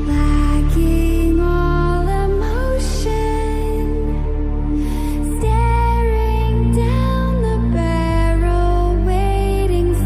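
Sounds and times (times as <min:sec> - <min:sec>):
soft slow background music: 0:00.0 - 0:10.0.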